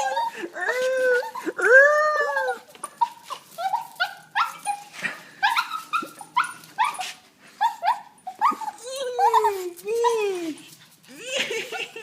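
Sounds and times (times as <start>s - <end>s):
dog whining and yelping: 0.0s - 10.8s.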